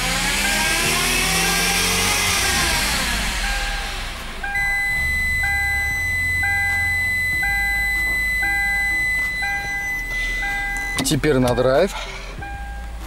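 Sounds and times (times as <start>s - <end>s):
car engine droning: 0.0s - 13.0s
continuous high warning tone: 0.0s - 13.0s
parking sensor beeps: 0.2s - 13.0s.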